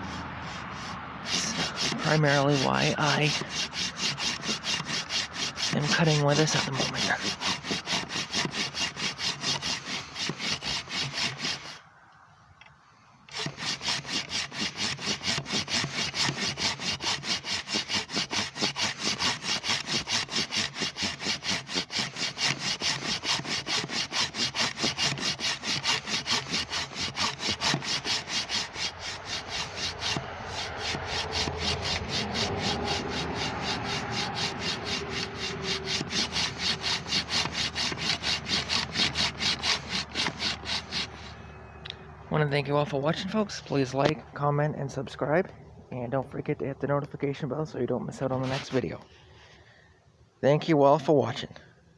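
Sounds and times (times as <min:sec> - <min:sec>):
hand saw rasping through wood: 0:00.0 - 0:11.8, 0:13.3 - 0:41.5, 0:42.7 - 0:44.1, 0:48.3 - 0:49.1.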